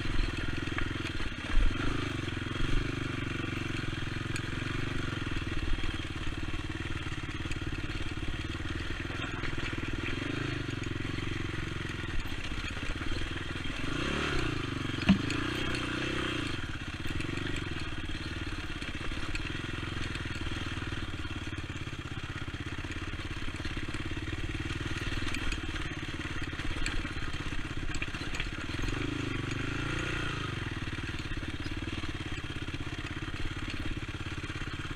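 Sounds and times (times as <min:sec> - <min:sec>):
atv engine revving: 0:00.0 - 0:34.9.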